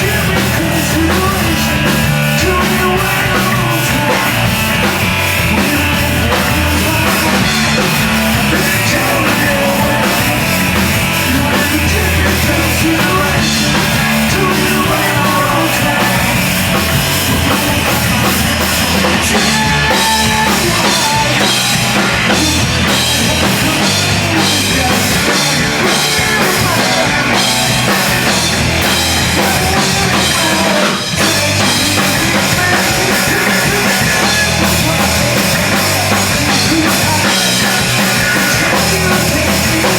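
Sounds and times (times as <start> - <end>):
distorted guitars: 0.0 - 39.9
loud live rock band: 0.0 - 39.9
pounding drums: 0.0 - 39.9.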